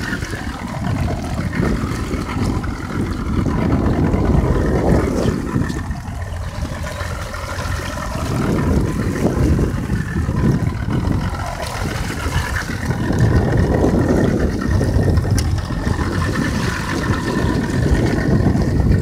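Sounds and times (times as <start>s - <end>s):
boat motor running: 0.0s - 19.0s
wind and sea rumble: 0.0s - 19.0s.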